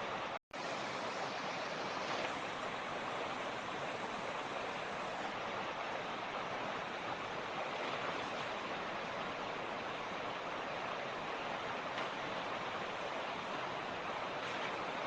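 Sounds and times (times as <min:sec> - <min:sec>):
creek flowing over rocks: 0:00.0 - 0:15.0.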